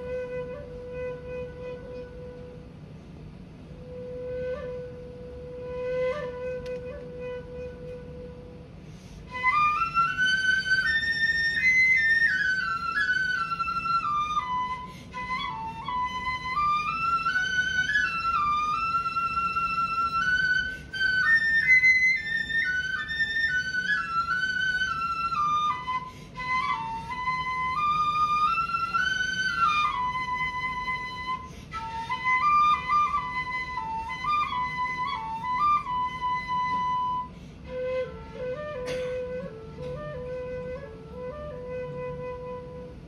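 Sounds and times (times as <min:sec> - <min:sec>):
bamboo flute melody: 0:00.0 - 0:03.0, 0:03.6 - 0:43.0.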